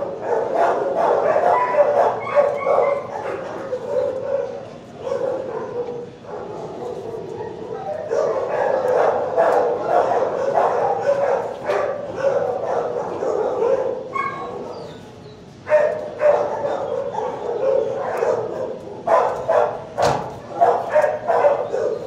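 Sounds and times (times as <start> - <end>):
dogs barking and yipping: 0.0 - 22.0.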